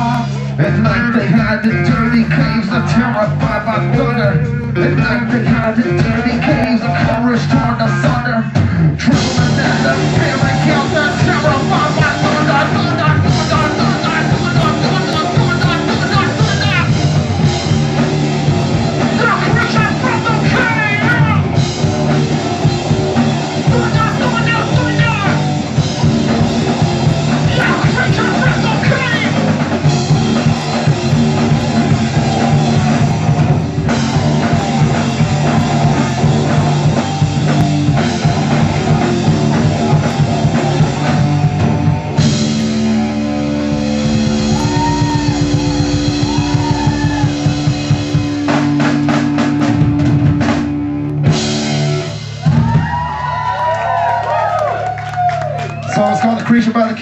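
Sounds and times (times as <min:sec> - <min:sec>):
electric guitar: 0:00.0 - 0:56.0
drum kit: 0:00.0 - 0:57.0.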